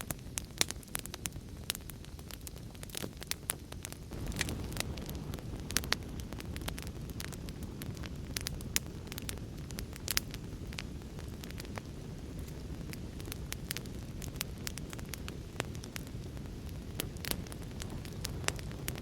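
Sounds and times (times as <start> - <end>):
low rumble of rain: 0.0 - 19.0
wood fire crackling and popping: 0.0 - 19.0.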